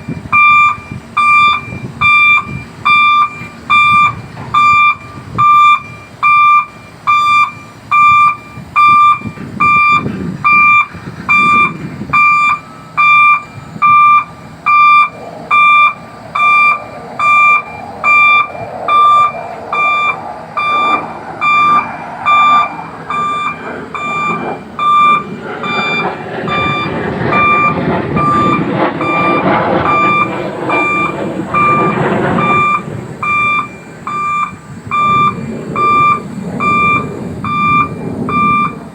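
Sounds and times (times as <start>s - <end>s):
crane engine running: 0.0s - 38.9s
crane warning beeper: 0.0s - 38.9s.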